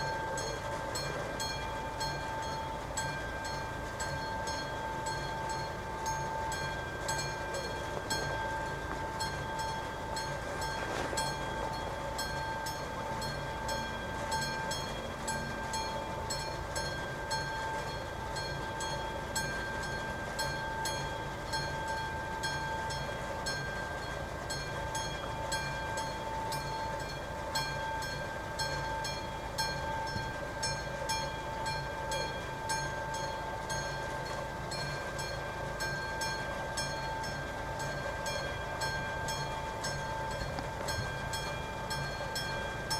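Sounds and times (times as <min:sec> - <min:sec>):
level crossing warning bell: 0:00.0 - 0:42.9.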